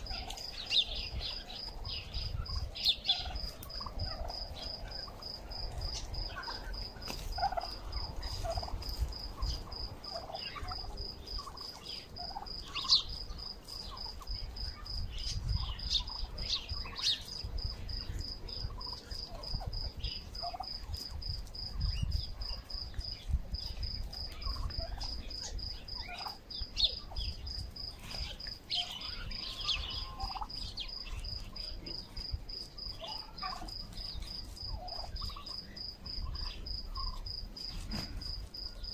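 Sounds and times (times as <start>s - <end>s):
turkeys calling and peeping: 0.0s - 38.8s.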